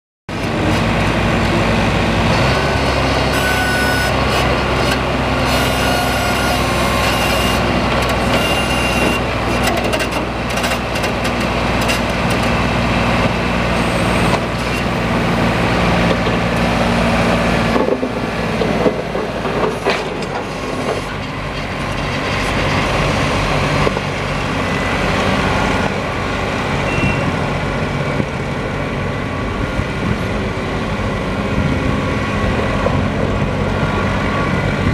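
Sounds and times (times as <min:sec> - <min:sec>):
tractor diesel engine running: 0:00.3 - 0:34.9.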